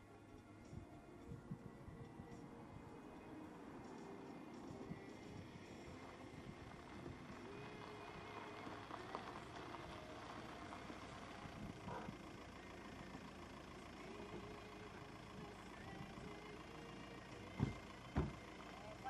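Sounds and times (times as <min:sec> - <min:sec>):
faint engine hum: 0:00.0 - 0:19.0.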